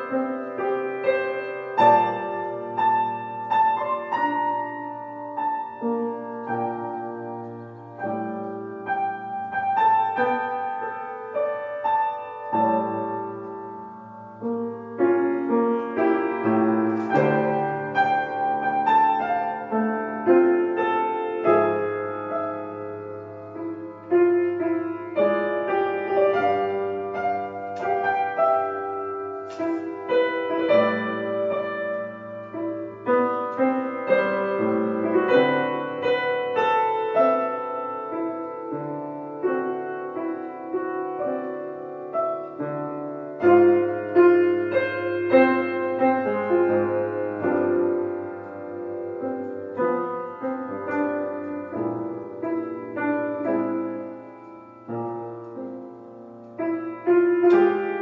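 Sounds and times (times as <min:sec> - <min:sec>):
solo piano melody: 0:00.0 - 0:58.0.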